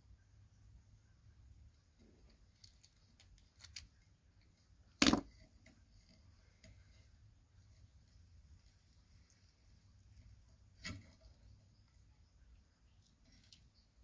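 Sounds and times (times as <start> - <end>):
faint clicks of parts: 1.7 - 12.0, 12.9 - 14.0.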